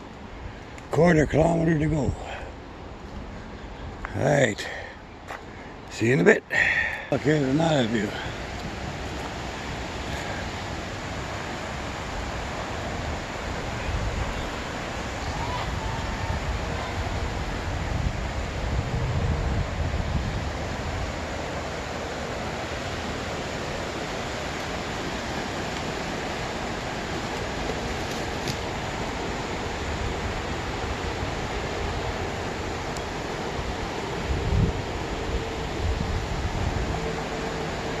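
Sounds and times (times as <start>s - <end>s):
wind blowing across microphone: 5.1s - 38.0s.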